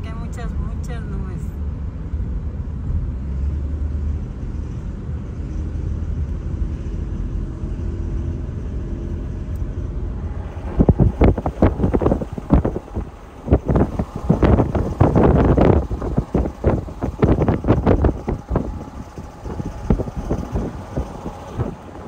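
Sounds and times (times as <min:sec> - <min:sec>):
steady low rumble: 0:00.0 - 0:22.0
wind buffeting microphone: 0:04.2 - 0:22.0.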